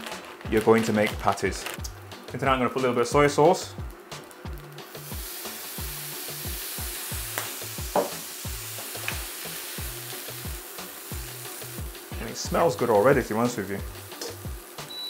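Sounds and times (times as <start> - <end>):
background music with low beat: 0.0 - 15.0
mince sizzling in a frying pan: 0.0 - 15.0.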